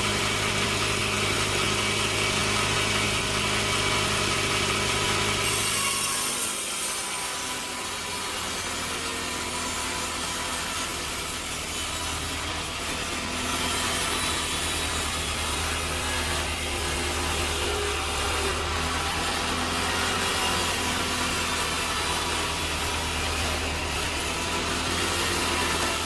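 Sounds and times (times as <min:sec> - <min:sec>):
saw cutting through log: 0:00.0 - 0:26.0.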